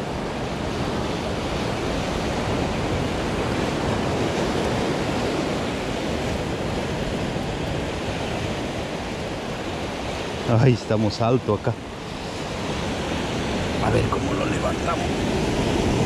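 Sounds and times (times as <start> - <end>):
sea surf breaking over rocks: 0.0 - 16.0.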